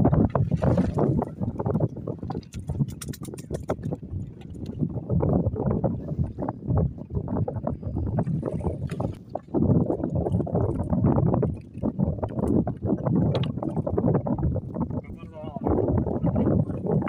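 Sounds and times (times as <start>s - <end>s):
gusty wind buffeting microphone: 0.0s - 17.0s
water sloshing against hull: 0.0s - 17.0s.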